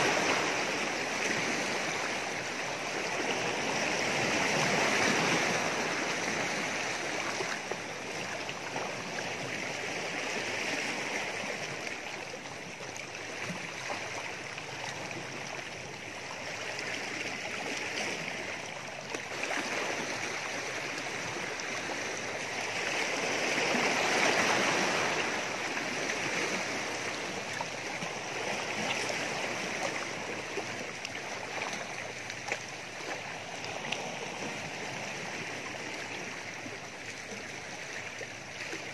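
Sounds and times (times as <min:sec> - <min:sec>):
waves splashing against rocks: 0:00.0 - 0:38.9.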